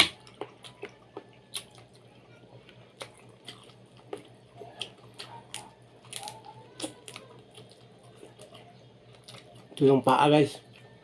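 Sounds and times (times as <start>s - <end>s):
wet chewing clicks and smacks: 0.0s - 9.8s.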